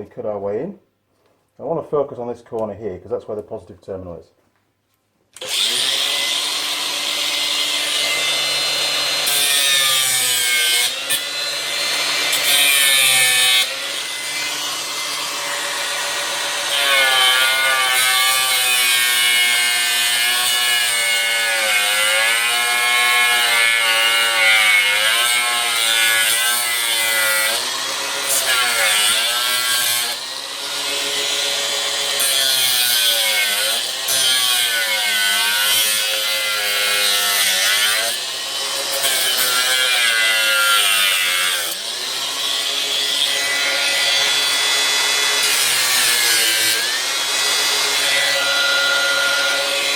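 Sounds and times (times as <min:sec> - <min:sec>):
angle grinder cutting plastic: 0:05.4 - 0:49.9.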